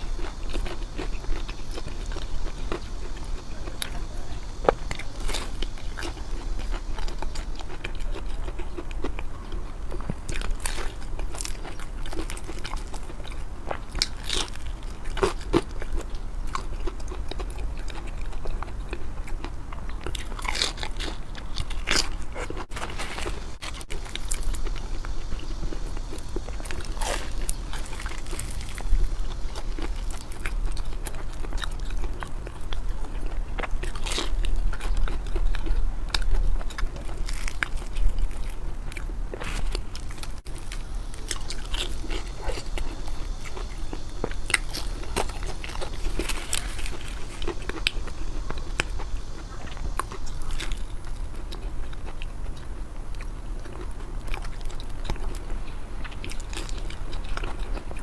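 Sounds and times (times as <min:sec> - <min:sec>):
person chewing crunchy food: 0:00.0 - 0:58.0
steady low hum: 0:00.0 - 0:58.0.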